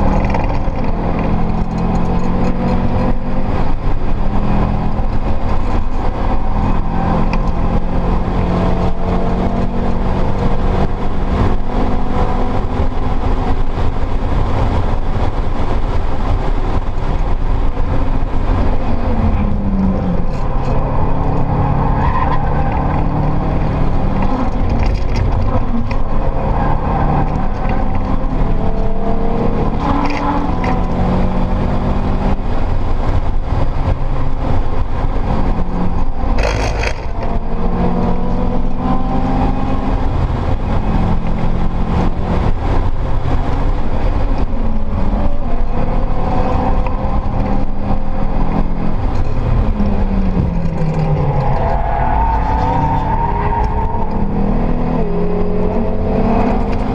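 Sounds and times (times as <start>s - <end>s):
car engine revving through gears: 0.0s - 56.9s
road and wind noise: 0.0s - 56.9s.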